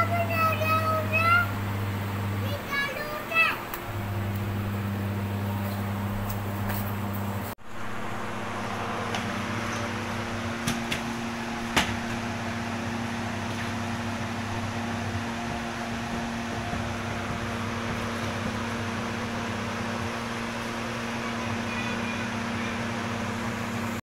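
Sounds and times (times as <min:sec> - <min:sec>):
motor hum with hiss: 0:00.0 - 0:24.0.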